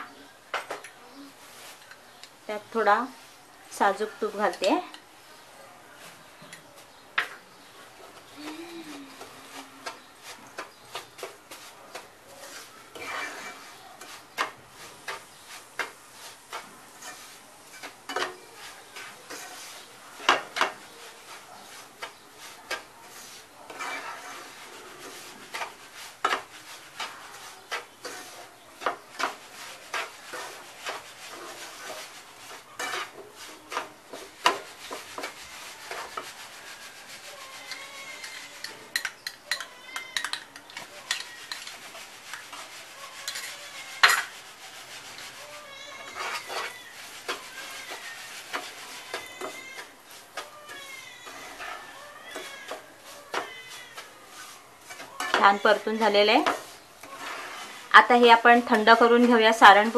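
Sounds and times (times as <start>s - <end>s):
spatula scraping dry mix in pan: 0.0s - 5.4s, 6.0s - 59.9s.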